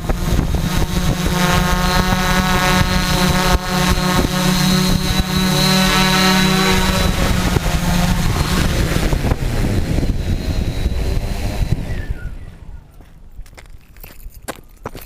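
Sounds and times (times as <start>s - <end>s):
wind on microphone: 0.0s - 13.4s
drone motors and propellers: 0.0s - 13.5s.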